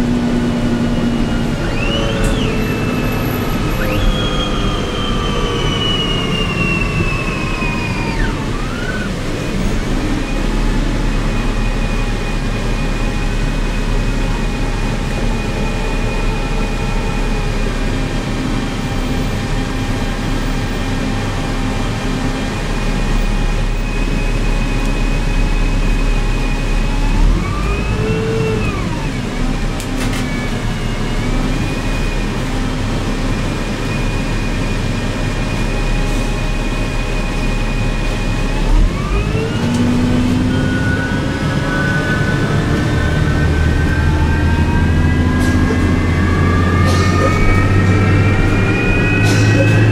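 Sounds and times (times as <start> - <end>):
bus engine drone: 0.0 - 49.9
high whine: 0.0 - 49.9.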